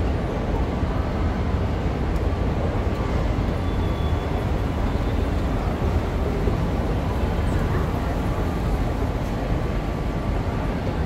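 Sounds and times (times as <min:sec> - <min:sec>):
urban background noise: 0:00.0 - 0:11.0.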